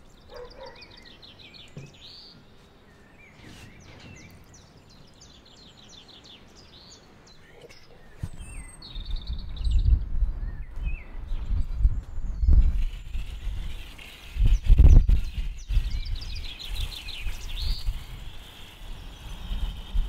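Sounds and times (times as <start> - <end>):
faint outdoor background noise: 0.0 - 20.0
songbirds singing: 0.0 - 20.0.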